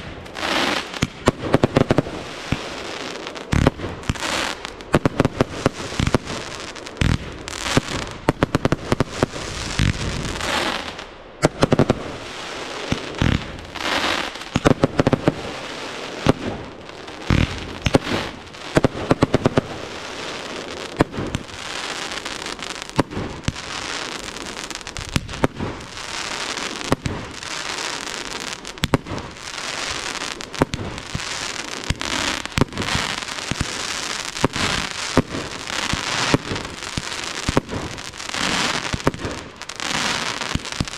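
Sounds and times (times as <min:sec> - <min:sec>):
fireworks bangs: 0:00.0 - 0:40.9
fireworks fizzing hiss: 0:00.0 - 0:40.9.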